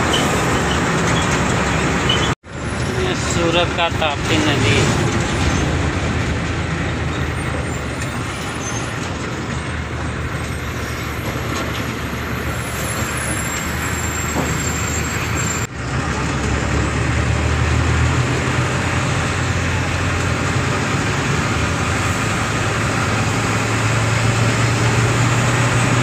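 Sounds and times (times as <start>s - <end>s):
road and wind noise: 0.0s - 26.0s
truck engine hum: 0.0s - 26.0s.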